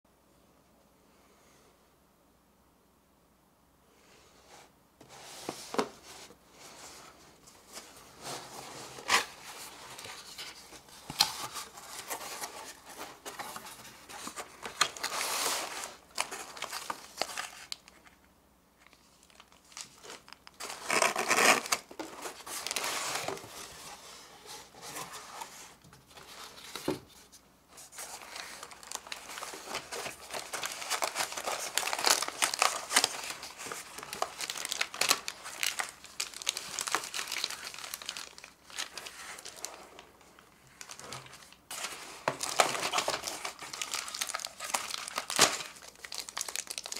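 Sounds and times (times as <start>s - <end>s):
plastic and cardboard packaging crinkling: 5.5s - 18.2s, 18.8s - 46.9s.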